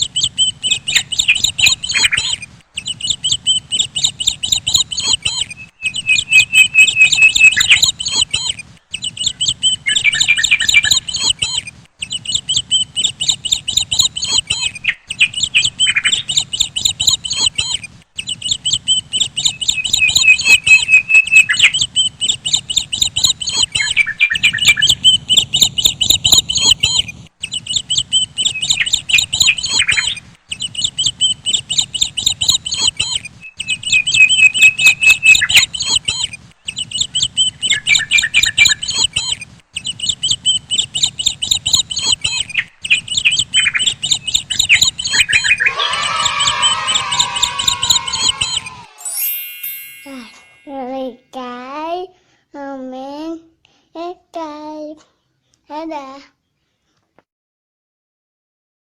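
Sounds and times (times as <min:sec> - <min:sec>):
birds chirping loudly: 0:00.0 - 0:50.6.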